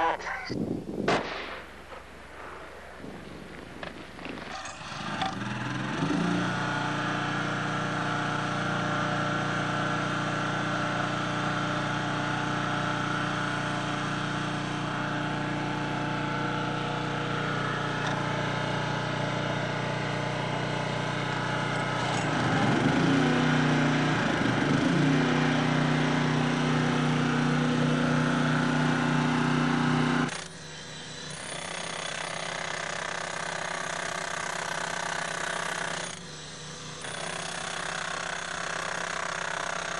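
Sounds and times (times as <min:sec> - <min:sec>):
small gasoline engine running: 0:04.6 - 0:39.9.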